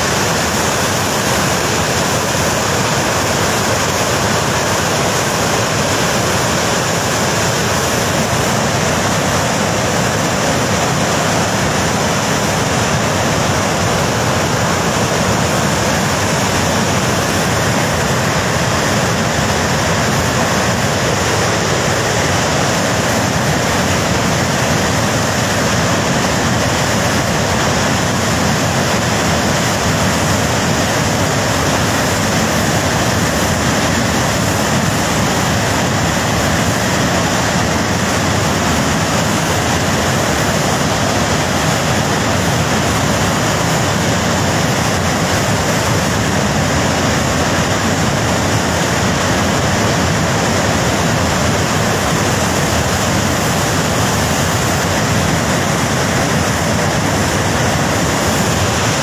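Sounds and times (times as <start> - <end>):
rushing flood water: 0.0 - 59.0.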